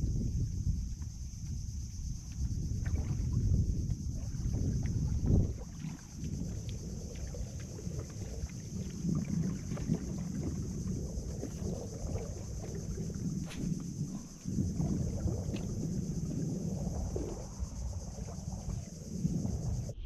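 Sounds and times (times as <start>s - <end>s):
wind rumbling on microphone: 0.0s - 20.0s
water lapping against boat hull: 0.2s - 20.0s.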